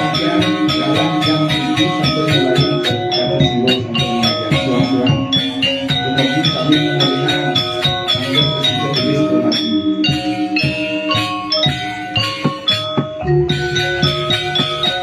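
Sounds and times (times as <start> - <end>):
gamelan metal percussion: 0.0 - 15.0.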